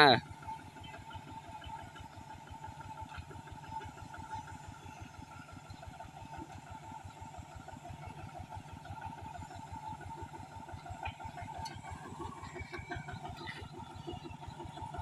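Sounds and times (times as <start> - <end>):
faint engine idling: 0.0 - 15.0.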